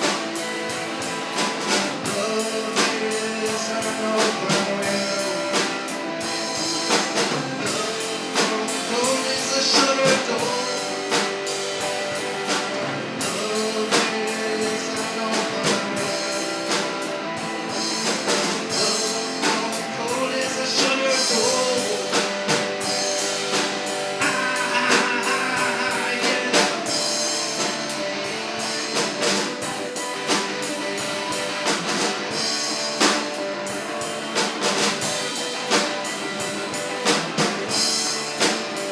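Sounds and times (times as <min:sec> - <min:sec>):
drum kit hits: 0:00.0 - 0:38.9
electric guitars: 0:00.0 - 0:38.9.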